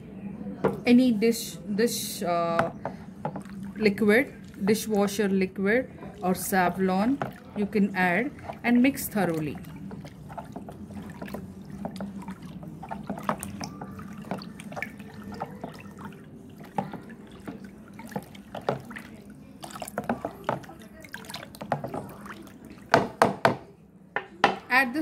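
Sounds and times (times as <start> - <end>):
soapy water sloshing: 2.1 - 23.7.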